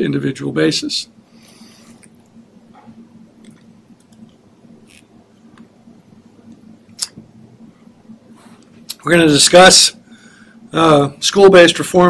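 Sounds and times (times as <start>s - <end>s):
low hum: 1.0s - 11.2s.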